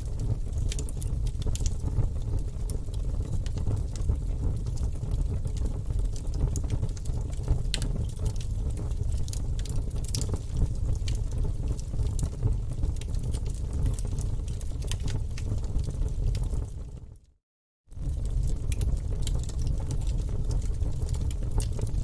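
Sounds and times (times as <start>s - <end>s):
wood fire burning: 0.0s - 17.2s, 17.9s - 22.0s.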